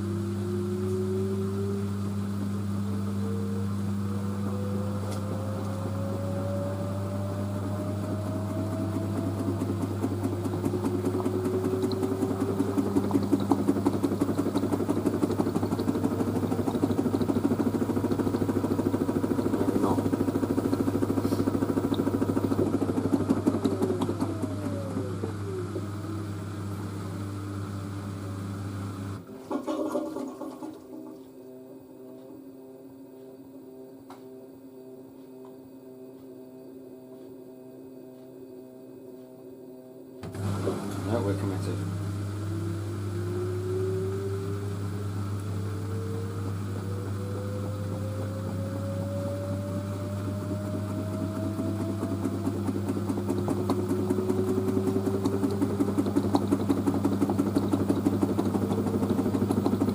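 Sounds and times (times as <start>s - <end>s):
steady low hum: 0.0s - 59.9s
washing machine motor whine: 0.0s - 59.9s.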